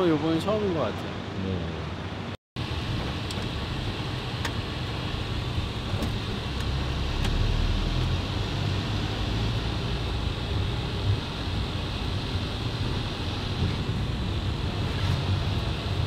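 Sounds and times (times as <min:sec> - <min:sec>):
car driving road rumble: 0:02.0 - 0:16.0.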